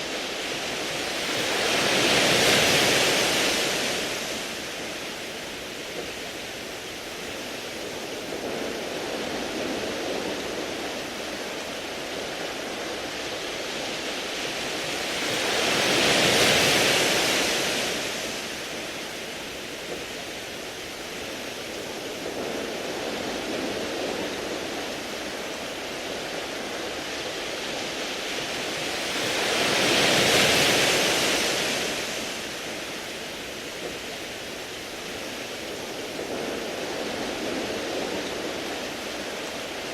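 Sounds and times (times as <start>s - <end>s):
waves washing onto pebbles: 0.0s - 39.9s.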